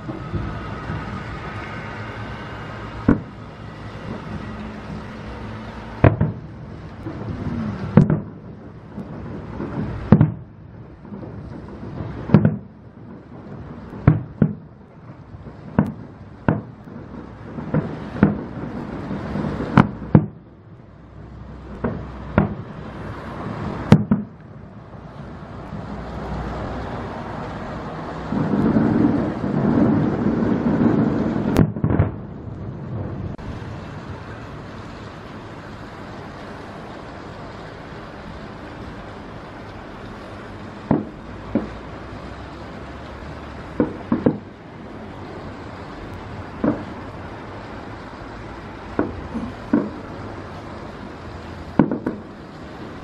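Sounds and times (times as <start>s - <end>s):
fireworks bursting with sharp bangs: 0.0s - 53.0s
low rumble: 0.0s - 53.0s.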